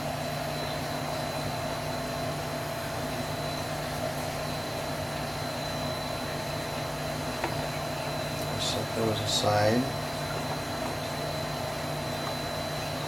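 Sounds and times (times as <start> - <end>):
faint high whine: 0.0 - 13.0
room hum and hiss: 0.0 - 13.0.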